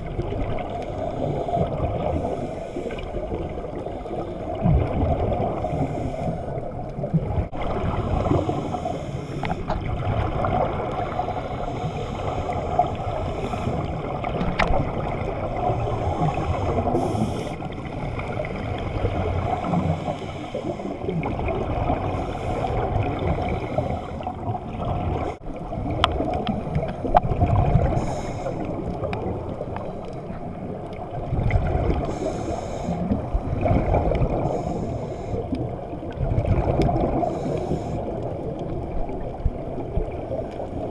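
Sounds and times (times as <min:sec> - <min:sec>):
muffled underwater rumble: 0:00.0 - 0:40.9.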